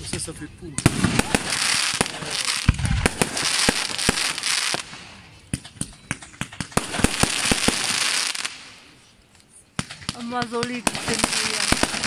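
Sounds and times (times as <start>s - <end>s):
fireworks bangs: 0.0s - 9.0s, 9.7s - 12.0s
fireworks crackling hiss: 0.0s - 12.0s.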